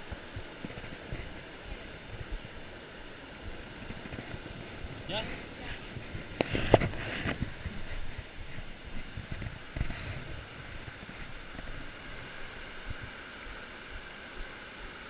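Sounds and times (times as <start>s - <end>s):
wind and handling bumps on microphone: 0.0s - 14.1s
stream rushing over rocks: 0.0s - 15.0s.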